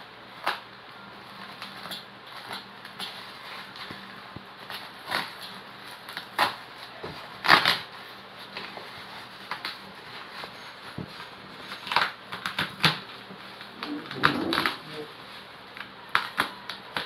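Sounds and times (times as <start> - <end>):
bubble wrap crinkling: 0.3 - 17.0.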